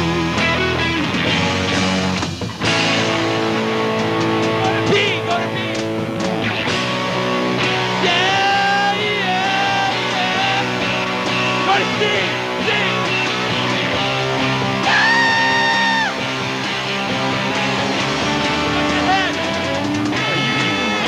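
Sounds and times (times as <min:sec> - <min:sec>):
electric guitar chords: 0:00.0 - 0:21.0
lead guitar bending notes: 0:00.0 - 0:21.0
rock band playing: 0:00.0 - 0:21.0.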